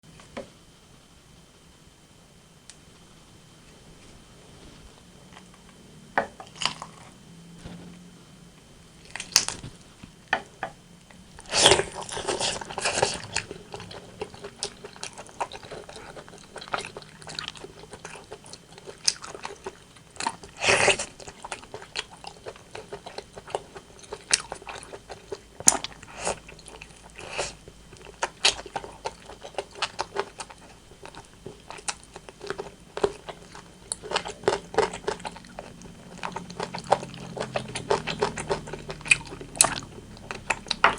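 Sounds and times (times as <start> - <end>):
chewing and crunching chicken: 5.2 - 8.0, 9.0 - 9.9, 11.0 - 40.9.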